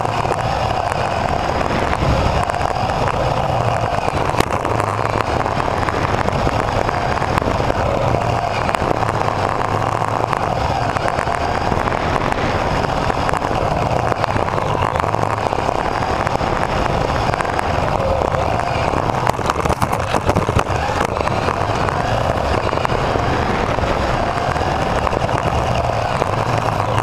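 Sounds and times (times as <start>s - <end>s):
electric motor whining: 0.0s - 27.0s
sharp clicks and knocks: 0.0s - 27.0s.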